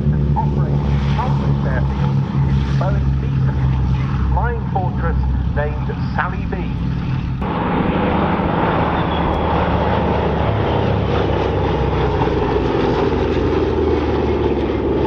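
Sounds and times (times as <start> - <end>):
propeller plane engines droning: 0.0 - 15.0.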